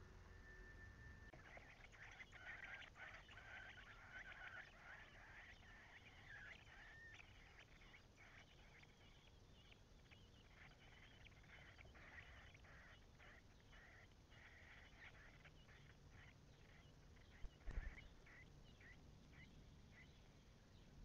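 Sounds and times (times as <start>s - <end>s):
nestling birds chirping: 0.0s - 21.0s.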